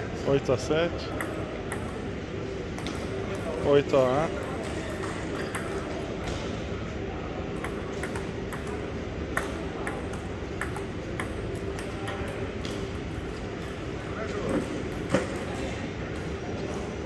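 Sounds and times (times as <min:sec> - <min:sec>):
low hall hum: 0:00.0 - 0:17.0.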